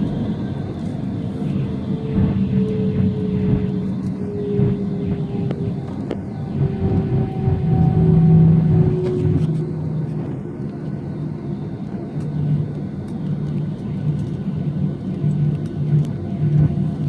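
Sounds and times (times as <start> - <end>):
jet engines rumbling: 0.0 - 17.0
low hum: 0.0 - 17.0.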